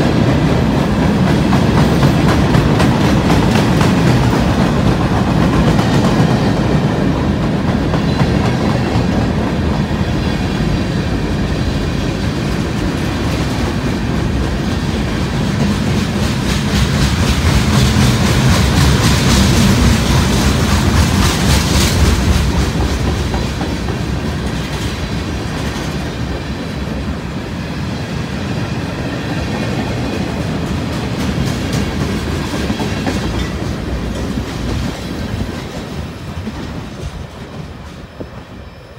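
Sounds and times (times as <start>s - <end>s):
train wheels clacking over joints: 0.1s - 9.8s, 12.4s - 26.4s, 29.8s - 38.1s.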